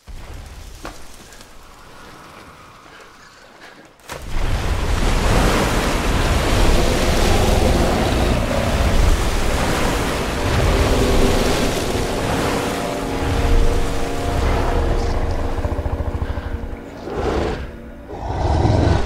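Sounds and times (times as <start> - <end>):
water crashing with spray: 0.0 - 3.0, 4.0 - 16.5.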